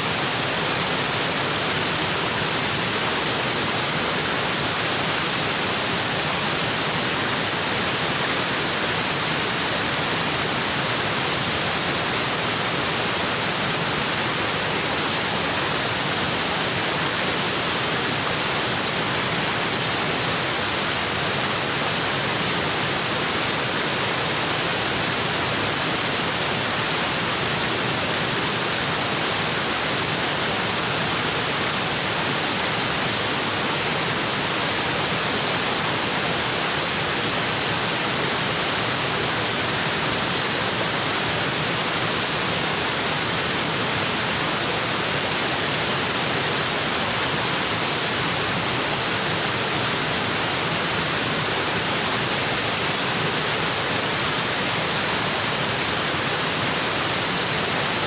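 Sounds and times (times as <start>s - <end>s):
waterfall onto rocks: 0.0s - 58.0s.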